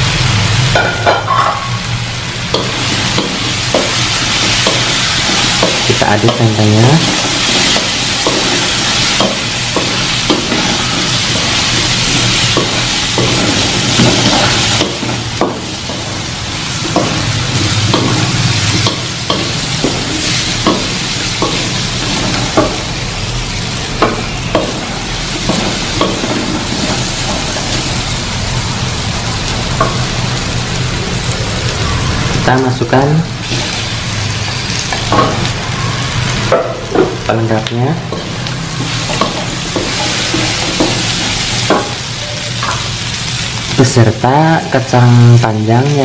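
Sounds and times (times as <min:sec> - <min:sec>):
food sizzling in oil: 0:00.0 - 0:46.0.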